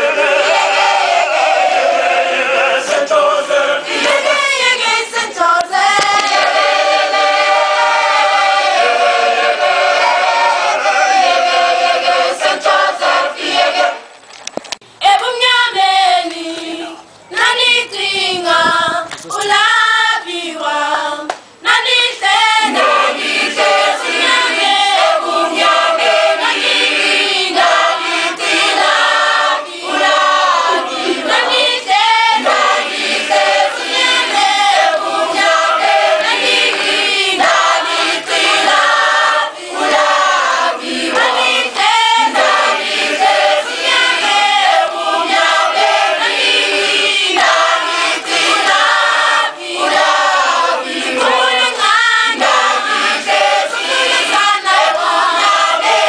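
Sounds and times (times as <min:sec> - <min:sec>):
children's choir singing: 0:00.0 - 0:14.1, 0:15.0 - 0:56.0.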